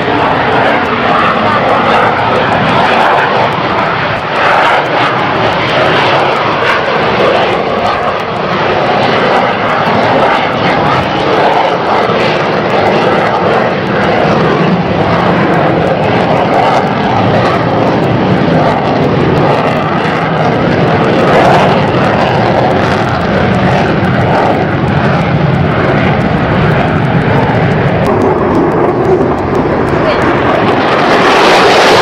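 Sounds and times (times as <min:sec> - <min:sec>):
fighter jet engine rumble: 0:00.0 - 0:32.0.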